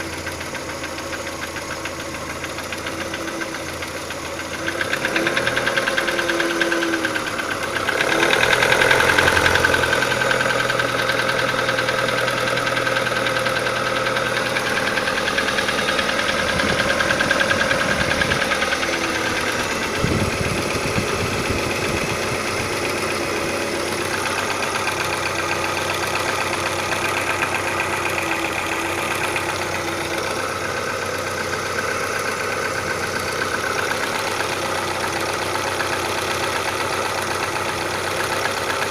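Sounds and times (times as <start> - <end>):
car engine running: 0.0 - 38.9
rapid engine knock: 0.0 - 38.9.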